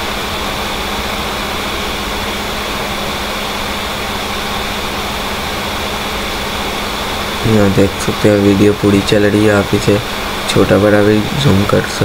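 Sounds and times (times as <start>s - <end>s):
low hum: 0.0s - 12.0s
mechanical drone with hiss: 0.0s - 12.0s.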